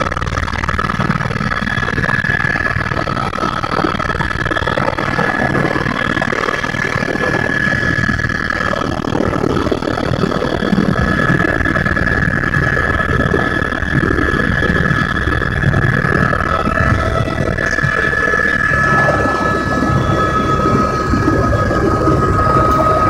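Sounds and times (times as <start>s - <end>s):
helicopter engine and rotor drone: 0.0s - 23.0s
high whine: 0.0s - 23.0s.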